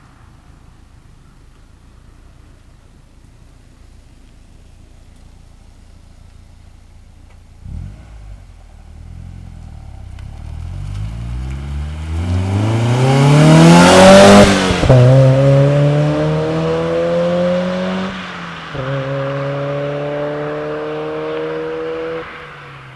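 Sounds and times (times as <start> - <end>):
car engine accelerating: 1.7 - 22.9.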